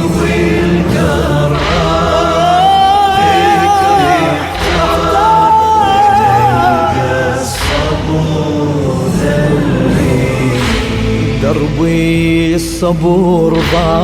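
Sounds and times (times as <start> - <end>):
low vocal hum: 0.0 - 14.0
wordless singing with vibrato: 0.0 - 14.0.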